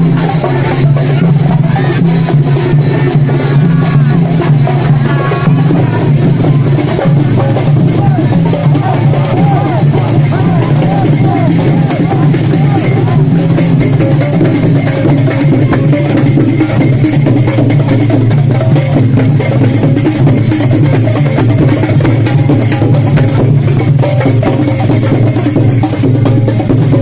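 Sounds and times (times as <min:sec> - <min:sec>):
drum beats: 0:00.0 - 0:27.0
jingles: 0:00.0 - 0:27.0.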